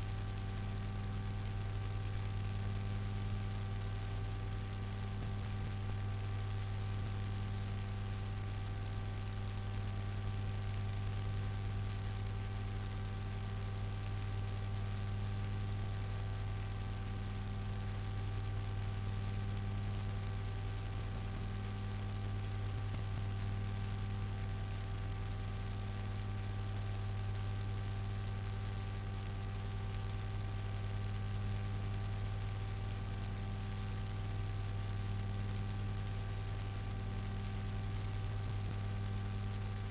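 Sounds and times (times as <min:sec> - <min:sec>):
constant hiss: 0:00.0 - 0:39.9
electrical mains hum: 0:00.0 - 0:39.9.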